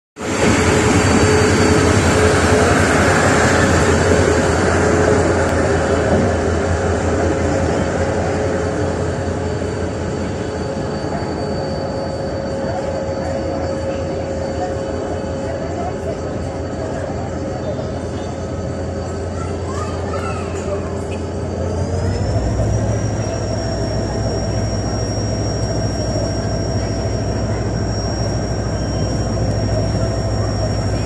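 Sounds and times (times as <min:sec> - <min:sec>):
train wheels rumbling on rails: 0:00.2 - 0:31.0.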